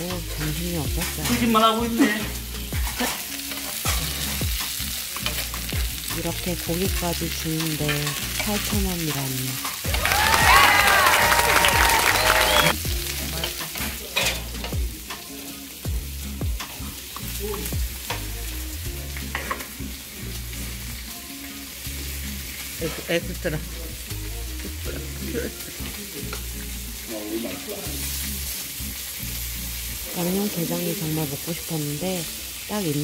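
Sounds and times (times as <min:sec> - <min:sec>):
meat sizzling on griddle: 0:00.0 - 0:33.0.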